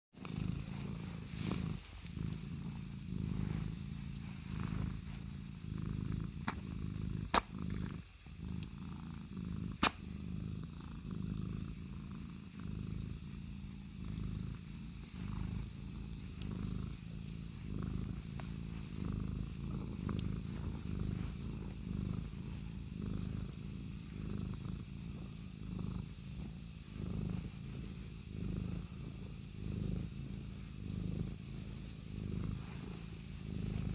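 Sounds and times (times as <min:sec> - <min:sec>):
cat purring: 0:00.1 - 0:33.9.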